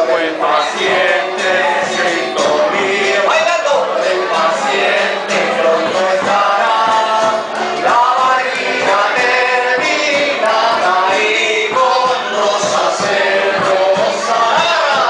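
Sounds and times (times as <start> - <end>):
folk waltz music: 0.0 - 15.0
group of voices singing: 0.0 - 15.0.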